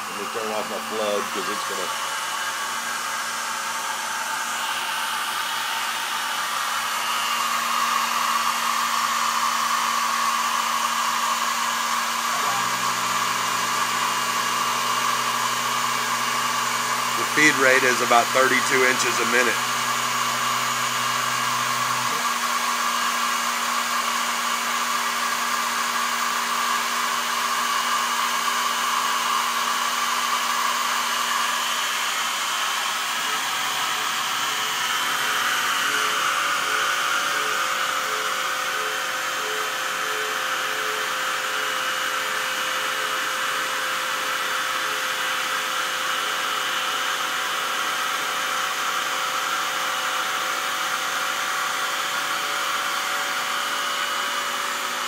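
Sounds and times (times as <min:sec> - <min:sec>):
stepper motor whining: 0:00.0 - 0:47.0
mill motor whir: 0:00.0 - 0:55.0.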